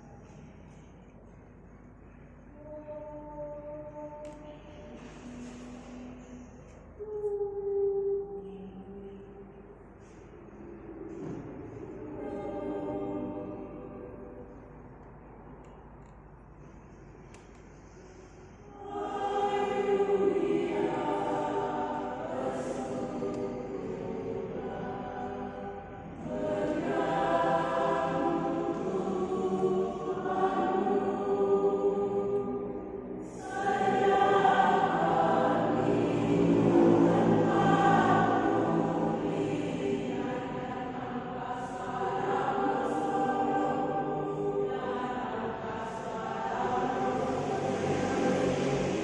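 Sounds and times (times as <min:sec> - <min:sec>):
choir singing: 0:02.4 - 0:15.4, 0:18.1 - 0:49.0.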